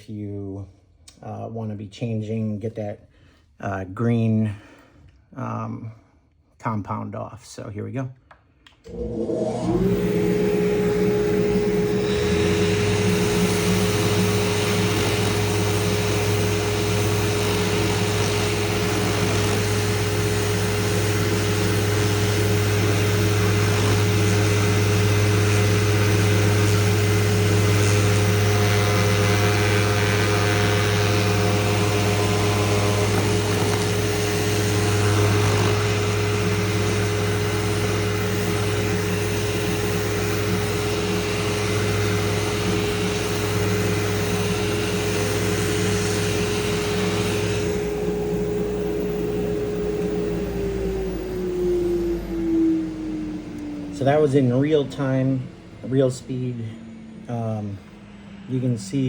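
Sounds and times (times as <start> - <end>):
dust extractor running: 8.8 - 59.0
electric sander sanding: 8.9 - 57.6.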